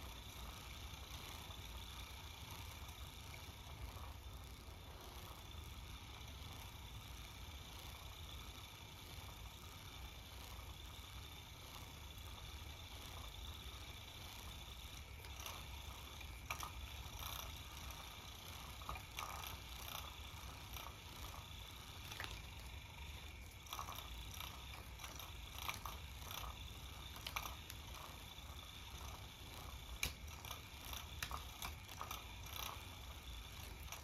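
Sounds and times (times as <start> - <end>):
toy motor whirring: 0.0 - 34.0.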